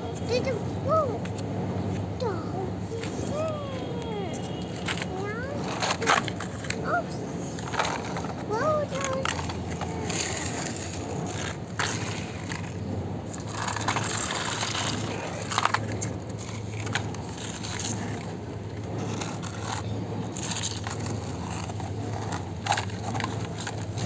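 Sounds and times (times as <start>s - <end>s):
sand scraped by toy vehicles: 2.2s - 24.0s.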